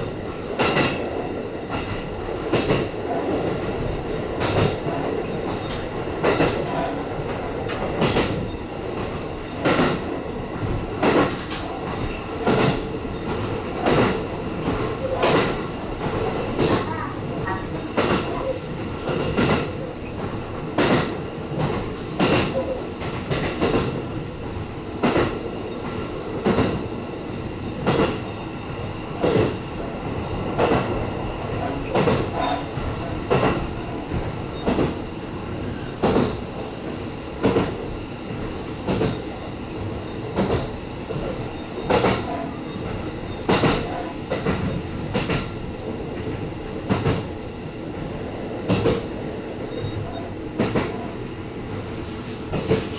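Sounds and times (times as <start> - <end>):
train running gear rumble: 0.0 - 52.9.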